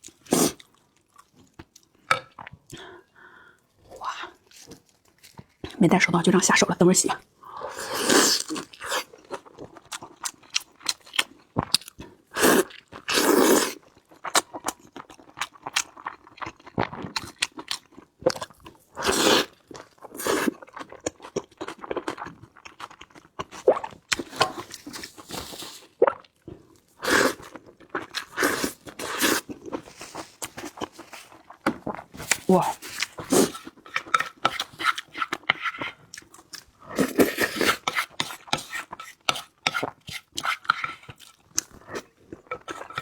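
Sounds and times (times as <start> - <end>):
person chewing crunchy food: 0.0 - 2.8, 7.7 - 43.0.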